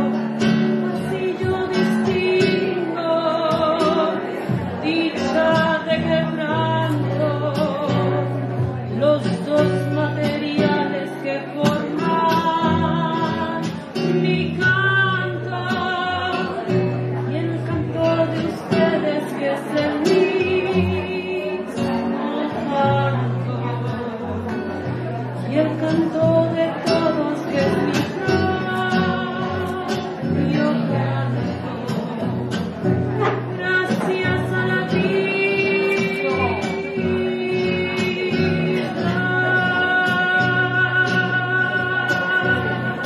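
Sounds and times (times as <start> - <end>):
woman singing: 0.0 - 24.8, 25.4 - 32.4, 33.2 - 43.0
guitar accompaniment: 0.0 - 43.0.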